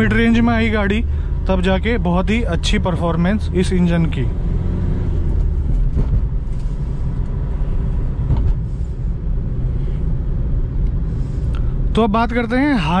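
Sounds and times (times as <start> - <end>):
diesel engine rumble from cabin: 0.0 - 4.3, 5.0 - 13.0
road noise: 0.0 - 13.0.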